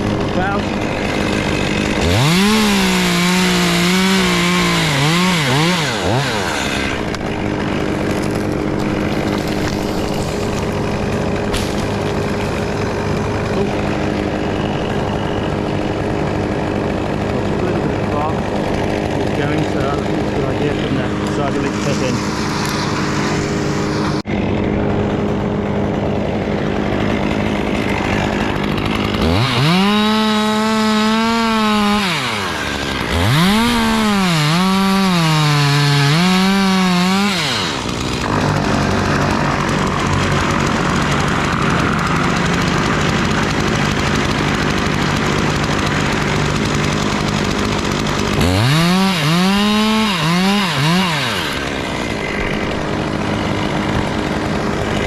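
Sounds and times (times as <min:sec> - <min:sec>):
chainsaw cutting wood: 0:00.0 - 0:55.0
chainsaw engine idling hum: 0:00.0 - 0:55.0.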